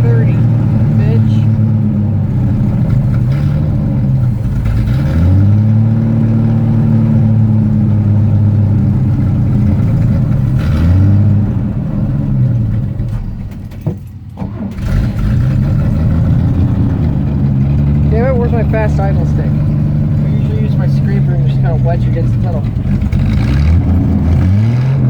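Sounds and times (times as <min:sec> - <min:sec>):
truck engine revving: 0:00.0 - 0:13.8, 0:14.4 - 0:25.0.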